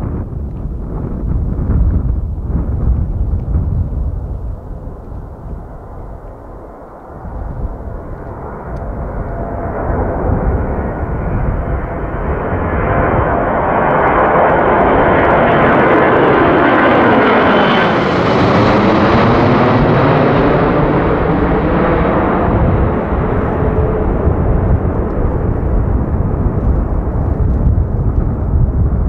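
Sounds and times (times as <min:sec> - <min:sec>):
jet aircraft passing overhead: 0:00.0 - 0:29.0.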